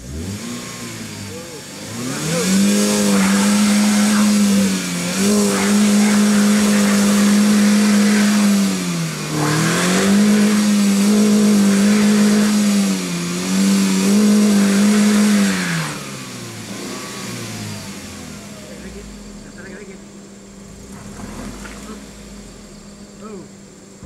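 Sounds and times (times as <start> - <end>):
car engine revving hard: 0.0 - 24.0.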